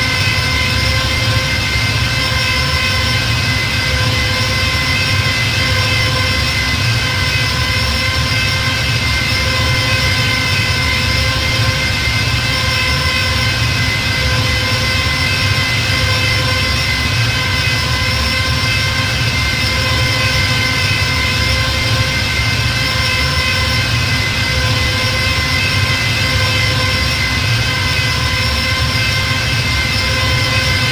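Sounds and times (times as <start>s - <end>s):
spacecraft engine whine: 0.0s - 30.9s.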